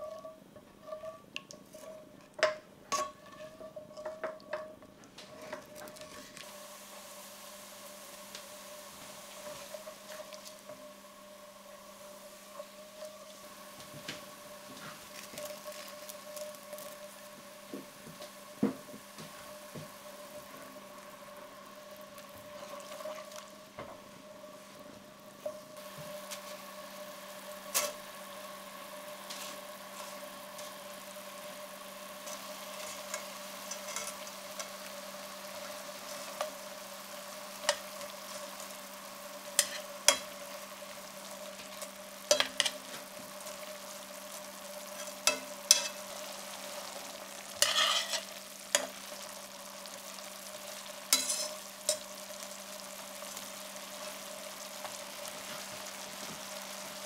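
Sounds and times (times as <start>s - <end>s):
spaghetti sizzling in a pan: 0.0s - 57.0s
steady hum: 0.0s - 57.0s.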